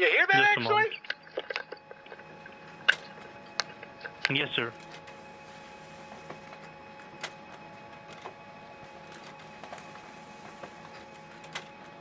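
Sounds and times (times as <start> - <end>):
printer humming: 0.0 - 12.0.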